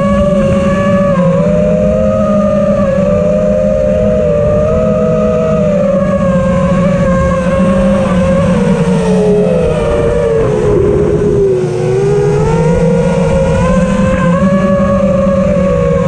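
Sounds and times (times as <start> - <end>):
drone motors whining: 0.0 - 16.0
rumble of prop wash and wind: 0.0 - 16.0.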